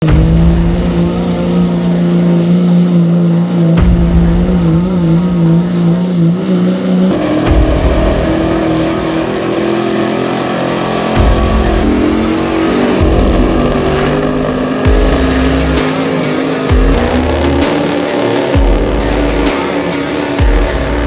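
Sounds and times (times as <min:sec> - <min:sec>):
diesel truck engine high revs: 0:00.0 - 0:21.0.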